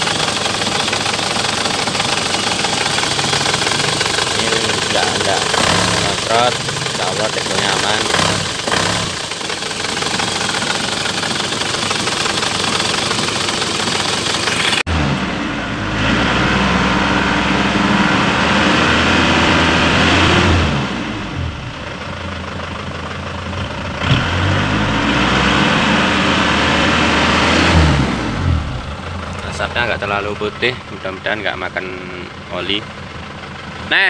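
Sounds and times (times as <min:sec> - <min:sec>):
diesel engine idling and revving: 0:00.0 - 0:34.0.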